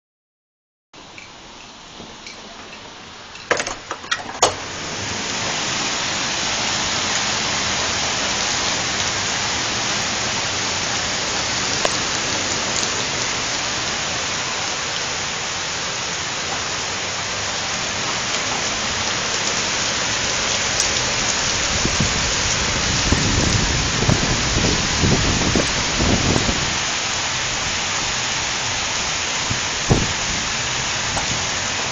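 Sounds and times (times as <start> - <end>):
heavy rain hissing: 1.0 - 31.9.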